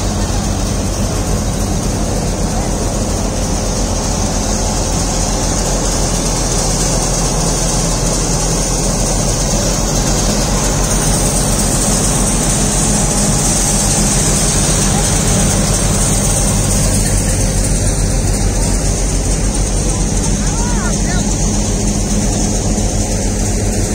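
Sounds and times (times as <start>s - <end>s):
tractor engine drone: 0.0s - 23.9s
wheat thresher running: 0.0s - 23.9s.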